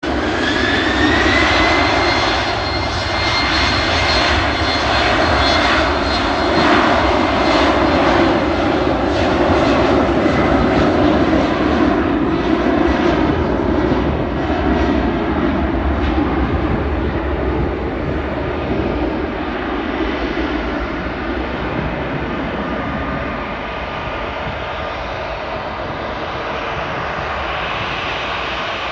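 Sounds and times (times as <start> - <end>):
jet engines roaring with whine: 0.0 - 28.9.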